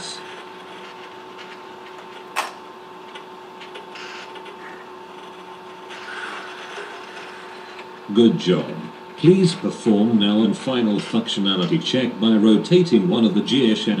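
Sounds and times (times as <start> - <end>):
mechanical hum with two tones: 0.0 - 14.0.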